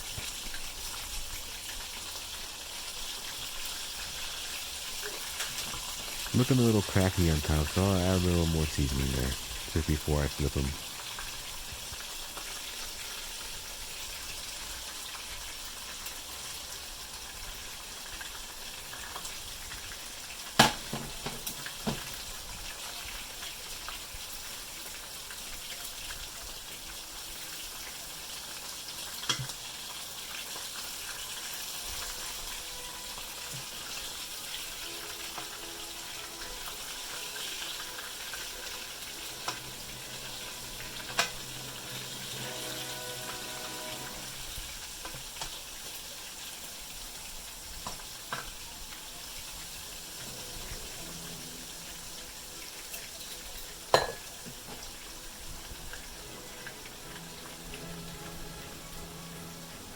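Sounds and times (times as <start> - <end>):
chicken sizzling in a frying pan: 0.0 - 59.9.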